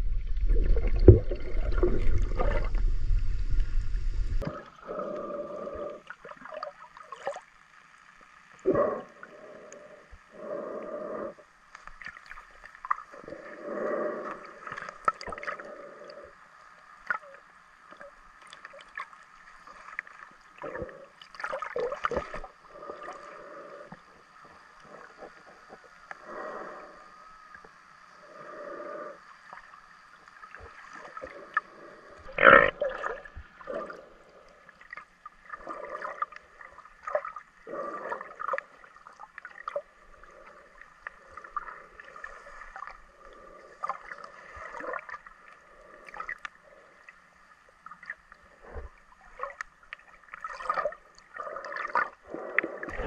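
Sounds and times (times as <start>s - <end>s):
muffled underwater sloshing: 0.0s - 53.0s.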